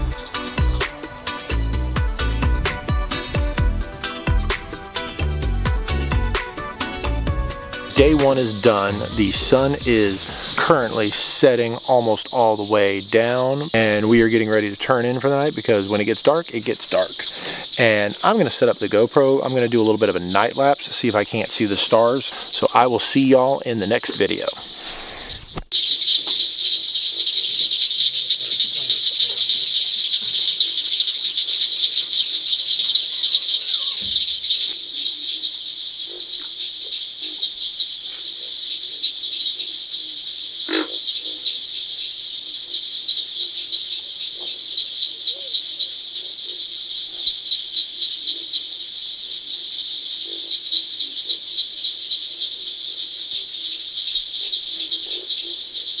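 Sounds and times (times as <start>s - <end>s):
low frog croaks: 0.0s - 56.0s.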